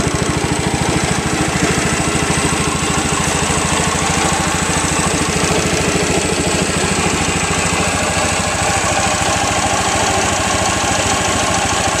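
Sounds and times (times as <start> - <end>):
stationary engine running: 0.0 - 12.0.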